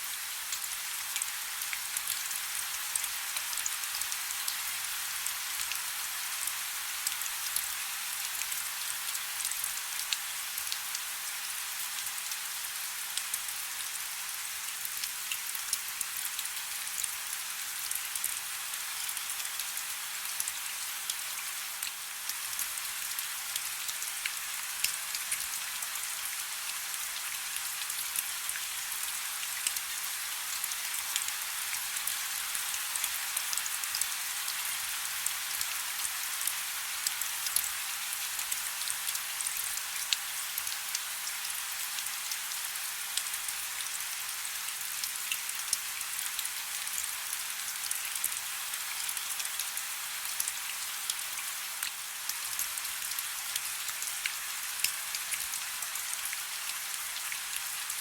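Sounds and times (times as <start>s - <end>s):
soft rain with drop ticks: 0.4s - 58.0s.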